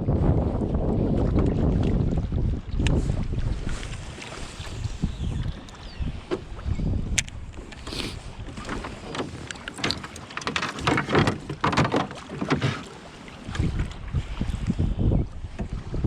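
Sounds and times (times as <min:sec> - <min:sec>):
wind buffeting microphone: 0:00.0 - 0:11.7, 0:13.3 - 0:16.0
water lapping against canoe hull: 0:00.0 - 0:16.0.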